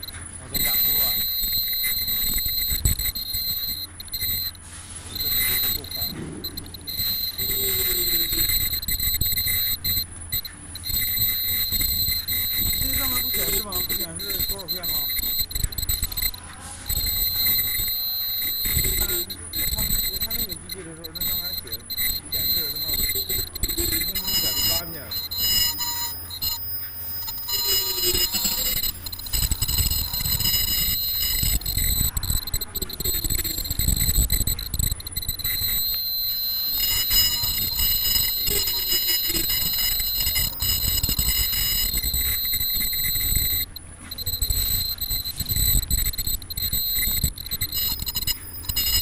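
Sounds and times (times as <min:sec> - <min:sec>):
high-pitched machine whine: 0:00.0 - 0:49.0.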